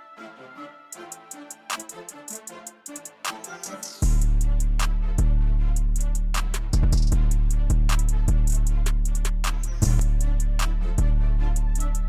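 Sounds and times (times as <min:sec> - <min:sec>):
hi-hat ticks: 0:01.0 - 0:05.0, 0:05.7 - 0:12.0.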